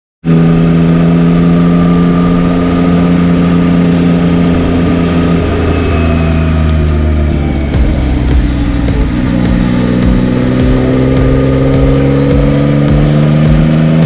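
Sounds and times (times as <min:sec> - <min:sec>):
motorcycle engine running: 0:00.2 - 0:14.0.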